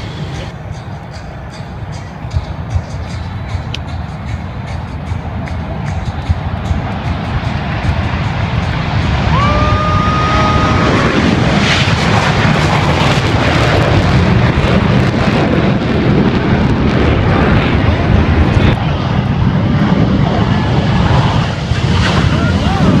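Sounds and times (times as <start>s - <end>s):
jet engines roaring low overhead: 0.0s - 23.0s.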